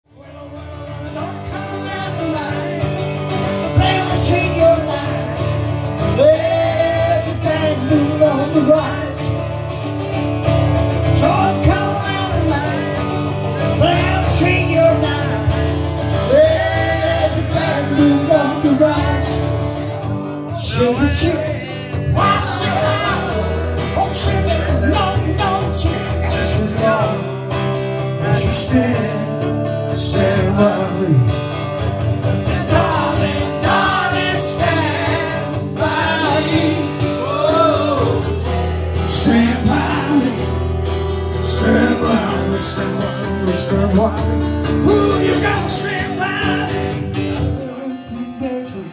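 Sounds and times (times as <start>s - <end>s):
man singing: 0.0s - 9.7s, 10.9s - 31.6s, 32.2s - 48.9s
acoustic guitar: 0.0s - 48.9s.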